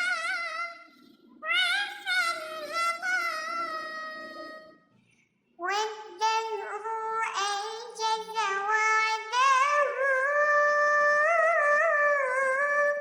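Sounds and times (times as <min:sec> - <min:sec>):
high-pitched altered singing voice: 0:00.0 - 0:04.8, 0:05.6 - 0:13.0.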